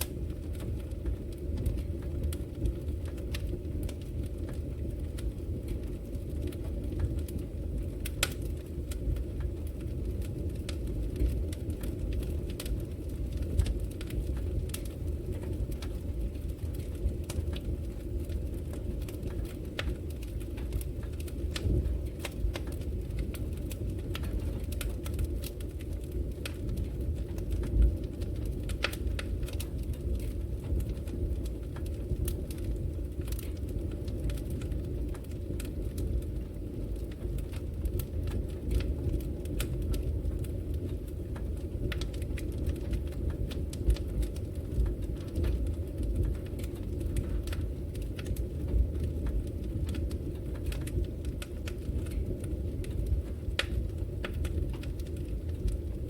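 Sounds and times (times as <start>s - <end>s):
low rumble of flame: 0.0s - 56.0s
wood fire crackling and popping: 0.0s - 56.0s.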